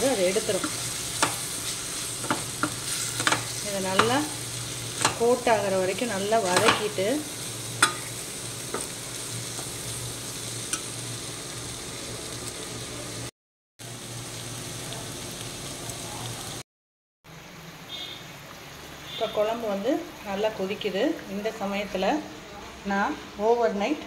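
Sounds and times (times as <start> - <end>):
vegetables sizzling in oil: 0.0 - 16.6, 17.3 - 24.0.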